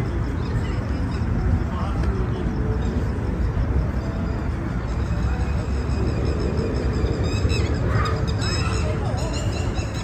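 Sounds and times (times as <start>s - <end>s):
faint voices: 0.0s - 10.0s.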